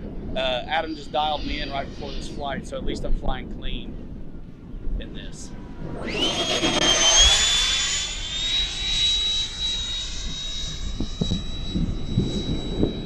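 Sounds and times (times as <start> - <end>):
electric ducted fan whine: 0.0 - 13.0
wind rumbling on microphone: 0.0 - 13.0.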